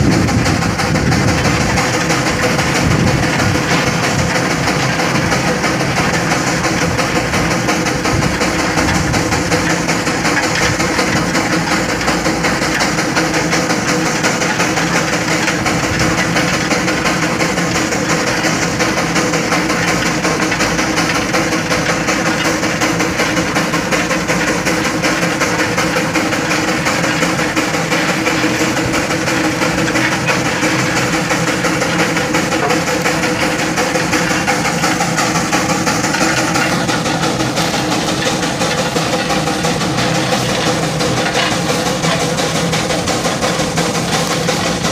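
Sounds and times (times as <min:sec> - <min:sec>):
steam engine running: 0:00.0 - 0:44.9.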